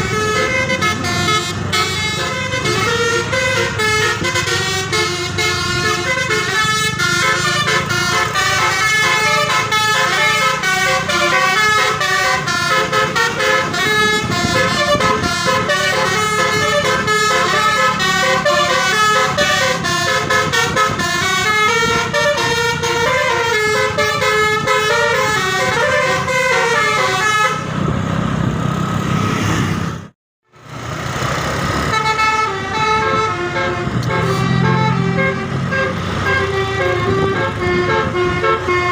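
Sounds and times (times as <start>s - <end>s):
bus horn playing a tune: 0.0s - 27.9s, 31.9s - 38.9s
engine and road noise: 0.0s - 38.9s.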